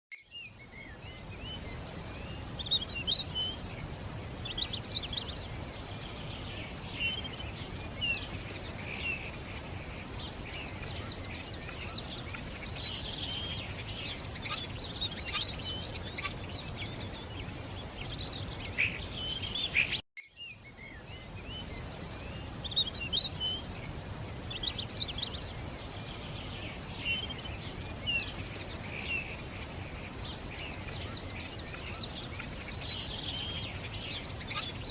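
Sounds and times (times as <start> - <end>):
songbirds chirping and twittering: 0.1 - 34.9
steady background hiss: 0.2 - 34.9.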